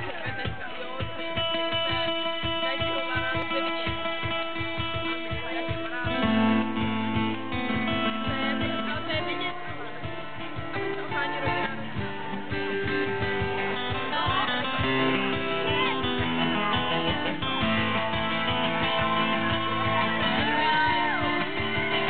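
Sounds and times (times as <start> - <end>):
acoustic and electric guitars: 0.0 - 22.0
cajon beat: 0.0 - 22.0.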